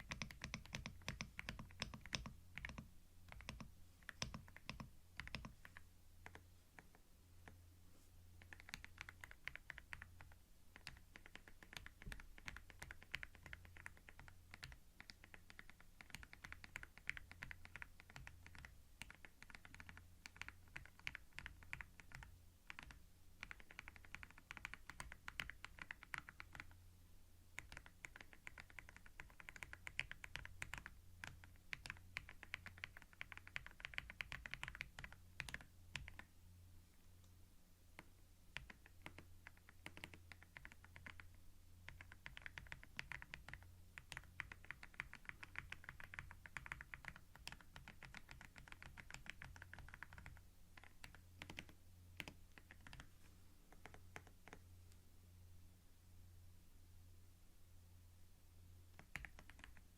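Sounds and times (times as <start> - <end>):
keyboard typing: 0.0 - 7.6, 8.4 - 26.8, 27.5 - 36.3, 37.9 - 54.7, 58.9 - 59.9
faint low hum: 0.0 - 59.9.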